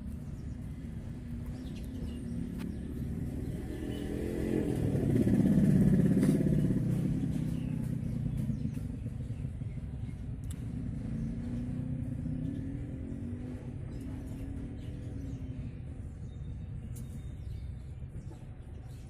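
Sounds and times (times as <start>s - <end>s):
vehicle engine passing: 0.0s - 16.1s.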